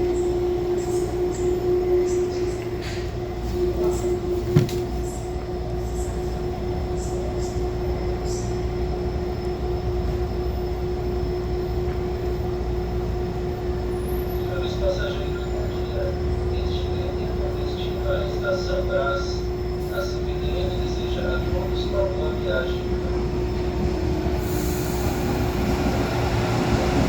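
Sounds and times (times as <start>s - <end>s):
electric train hum and rumble: 0.0s - 27.0s.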